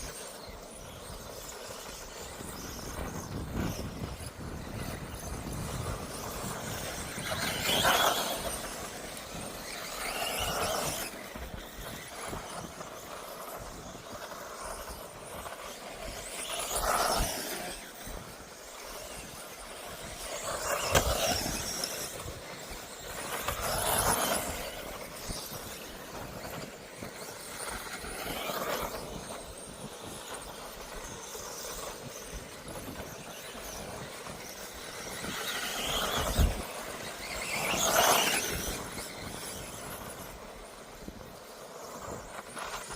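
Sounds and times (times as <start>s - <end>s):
rc car motors whining: 0.0s - 42.9s.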